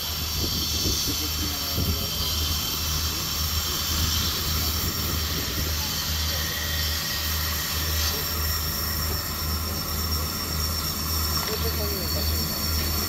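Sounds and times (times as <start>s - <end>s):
train low hum: 0.0s - 13.0s.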